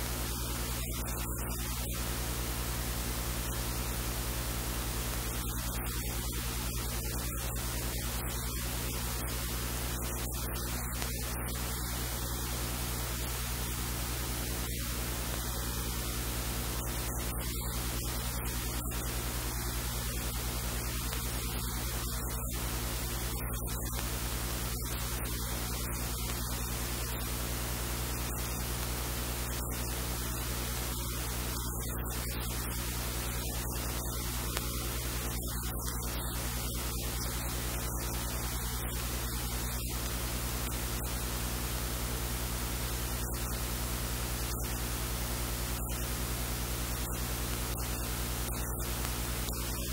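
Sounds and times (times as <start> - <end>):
electrical hiss: 0.0 - 49.9
low mains hum: 0.0 - 49.9.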